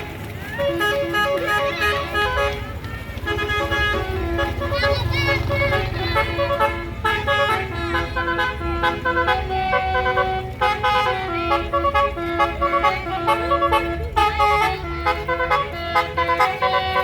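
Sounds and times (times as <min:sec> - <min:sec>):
bus horn playing a tune: 0:00.0 - 0:17.0.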